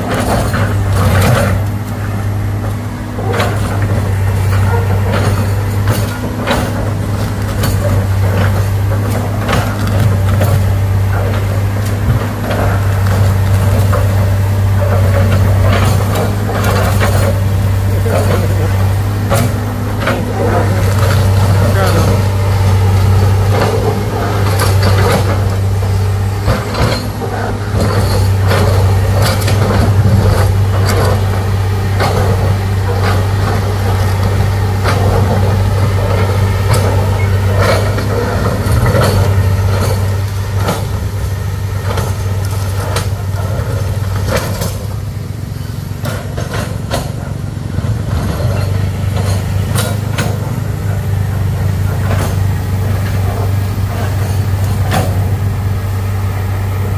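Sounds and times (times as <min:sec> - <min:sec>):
heavy machinery engine running: 0:00.0 - 0:56.9
knocks and clanks: 0:00.0 - 0:56.9.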